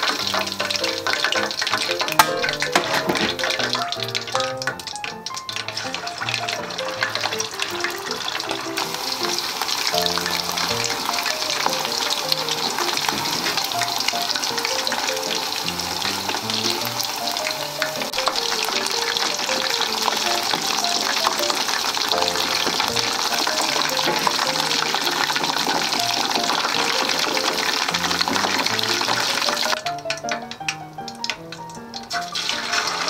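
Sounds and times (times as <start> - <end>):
oil crackling and sizzling: 0.0 - 33.0
soft background music: 0.4 - 33.0.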